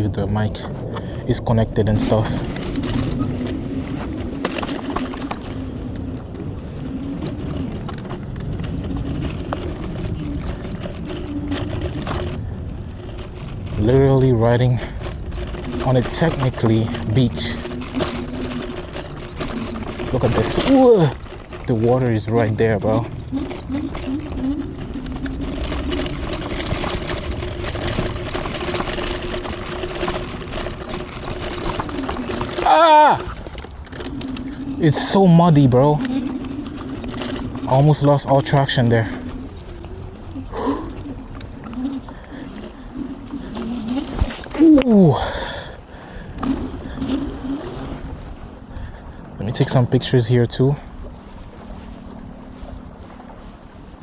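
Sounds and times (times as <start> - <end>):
scooter rattling over bumps: 0.0 - 54.0
tyre and wind noise: 0.0 - 54.0.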